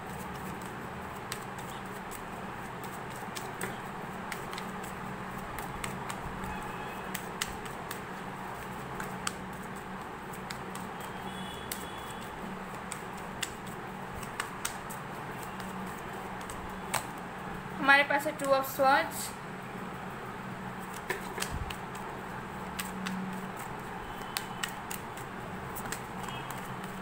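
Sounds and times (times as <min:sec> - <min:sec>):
cards being shuffled: 0:00.0 - 0:17.2, 0:20.8 - 0:27.0
steady background hum: 0:00.0 - 0:27.0.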